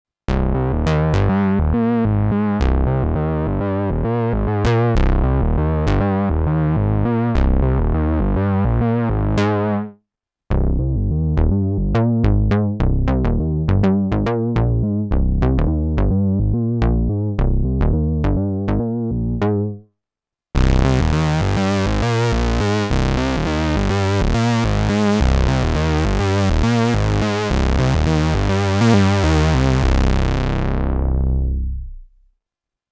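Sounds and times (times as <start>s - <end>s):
synthesizer bass lines: 0.3s - 9.9s, 10.5s - 19.8s, 20.6s - 32.3s.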